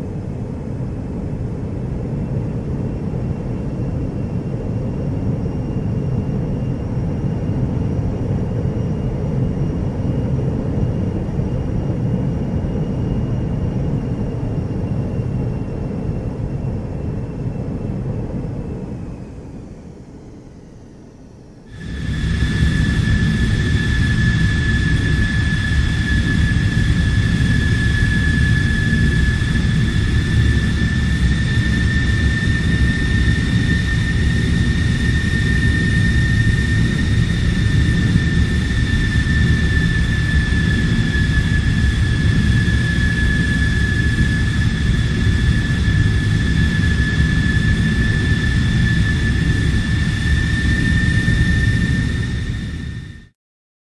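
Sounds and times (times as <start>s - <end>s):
jet engine whine and rumble: 0.0s - 53.4s.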